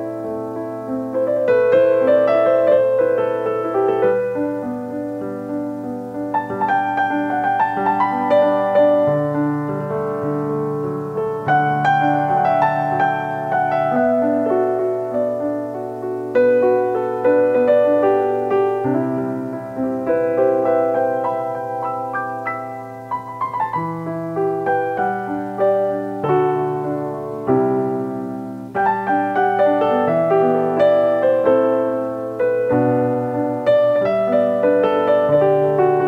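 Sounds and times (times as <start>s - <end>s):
background piano music: 0.0s - 36.0s.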